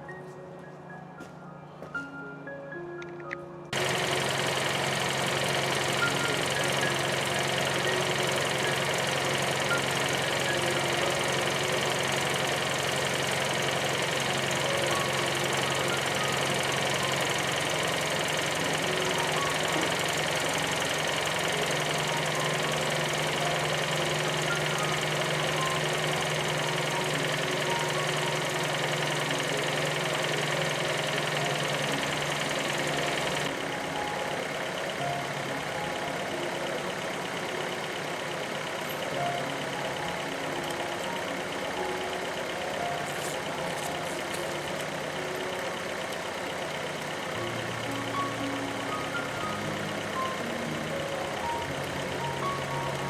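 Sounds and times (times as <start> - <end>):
car engine idling: 3.7 - 53.0.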